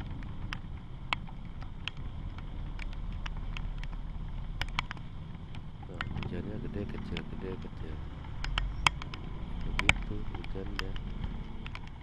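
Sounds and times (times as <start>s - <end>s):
raindrops ticking on helmet: 0.0s - 12.0s
vehicles idling in traffic: 0.0s - 12.0s.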